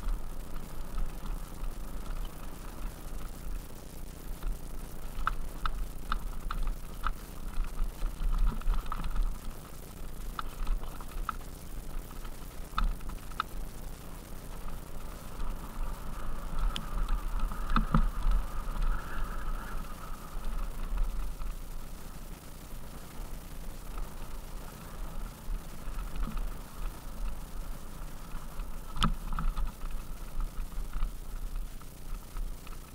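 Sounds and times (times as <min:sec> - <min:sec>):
bike clicks and rattles: 0:00.0 - 0:32.9
wind rumbling on microphone: 0:00.0 - 0:32.9.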